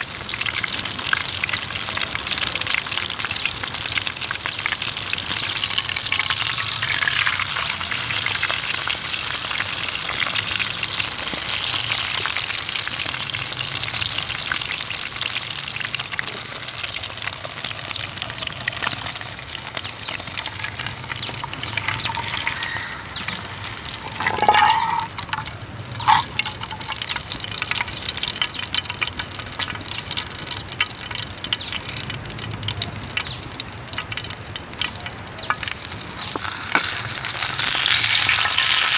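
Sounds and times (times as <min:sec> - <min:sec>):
steak sizzling in a pan: 0:00.0 - 0:32.2, 0:35.4 - 0:38.9.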